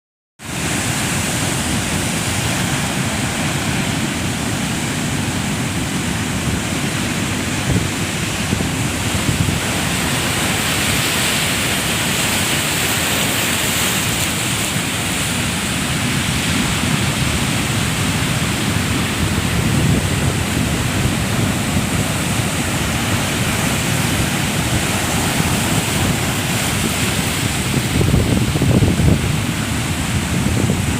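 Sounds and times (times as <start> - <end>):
ocean surf washing: 0.4 - 30.9
wind buffeting microphone: 0.6 - 30.9.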